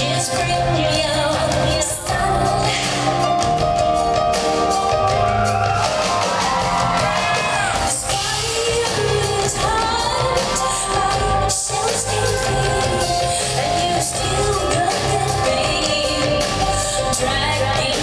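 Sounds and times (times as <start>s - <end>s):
woman singing: 0.0s - 5.2s, 7.6s - 18.0s
live band playing: 0.0s - 18.0s.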